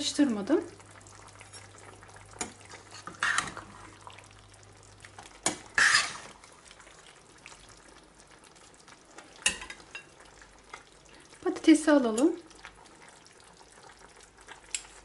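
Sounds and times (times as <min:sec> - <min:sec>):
faint kitchen background: 0:00.0 - 0:15.0.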